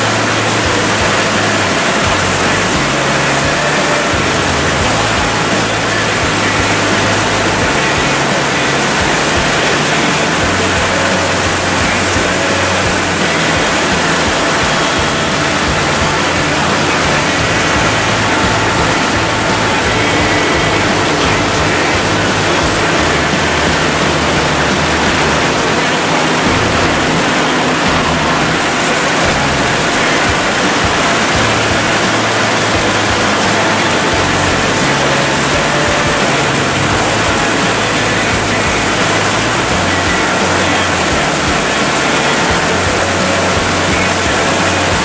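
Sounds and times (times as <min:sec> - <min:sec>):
combine harvester rushing: 0:00.0 - 0:45.0.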